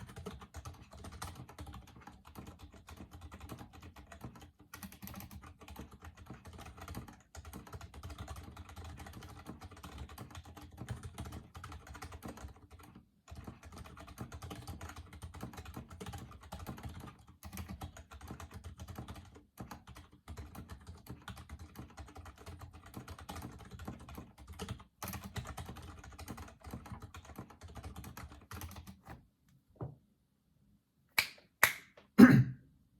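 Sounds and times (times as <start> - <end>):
soft mechanical keyboard typing: 0.0 - 29.3.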